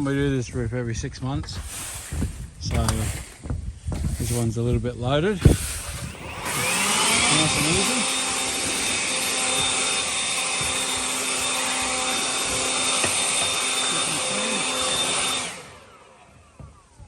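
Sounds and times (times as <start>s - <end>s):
leaf blower whining: 1.4s - 17.0s.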